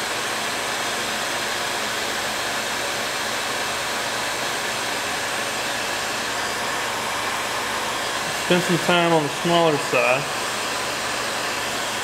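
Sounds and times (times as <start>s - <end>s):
heat gun blowing: 0.0s - 12.0s.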